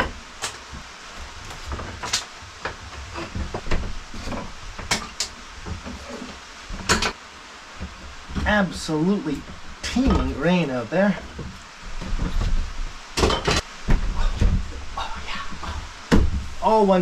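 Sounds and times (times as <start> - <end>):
wooden knocks and clatters: 0.0 - 8.6, 9.4 - 14.9, 15.5 - 16.6.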